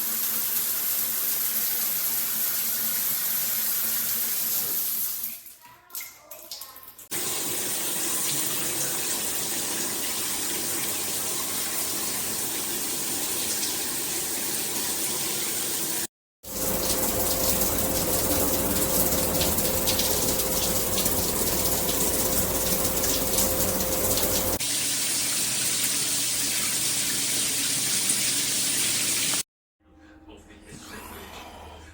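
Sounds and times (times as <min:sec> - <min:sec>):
shower spraying water: 0:00.0 - 0:05.4, 0:07.1 - 0:29.4.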